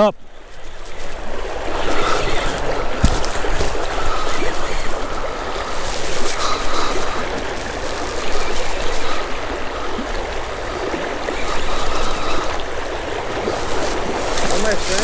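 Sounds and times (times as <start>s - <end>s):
creek water rushing: 0.0s - 15.0s
fishing reel whirring: 0.1s - 15.0s.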